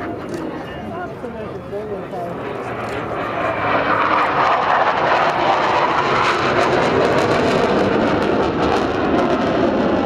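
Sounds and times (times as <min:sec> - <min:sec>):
fighter jet engine roar: 0:00.0 - 0:10.0.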